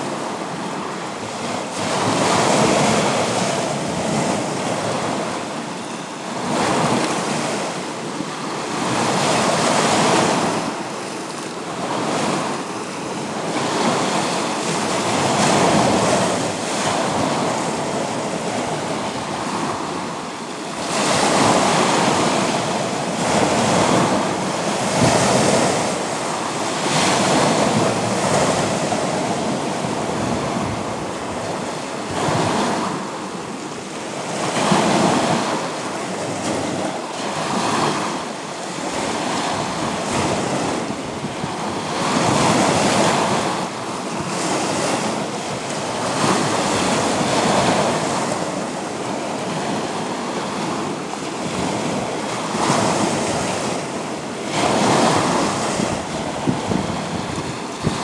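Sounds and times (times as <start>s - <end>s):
sea waves breaking on rocks: 0.0s - 58.0s.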